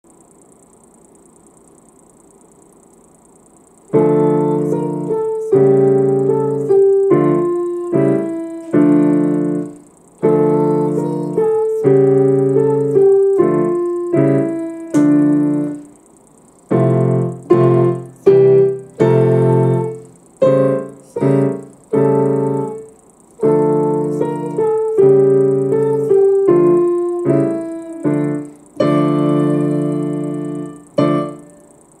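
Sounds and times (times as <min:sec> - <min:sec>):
slow chords on a digital piano: 0:03.8 - 0:32.0.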